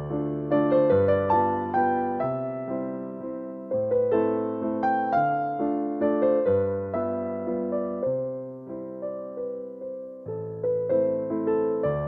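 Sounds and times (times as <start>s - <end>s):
gentle piano chords: 0.0s - 12.0s.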